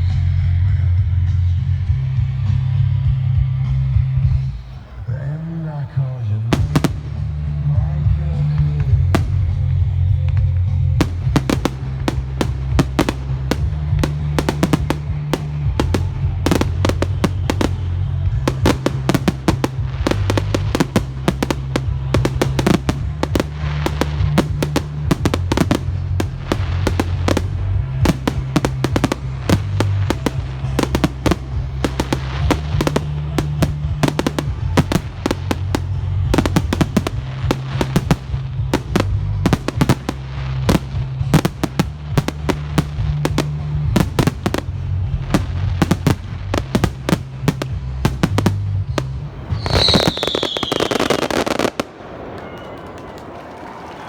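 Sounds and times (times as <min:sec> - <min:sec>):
loud music with bass: 0:00.0 - 0:04.8, 0:06.5 - 0:50.4
fireworks bangs and crackles: 0:00.0 - 0:54.0.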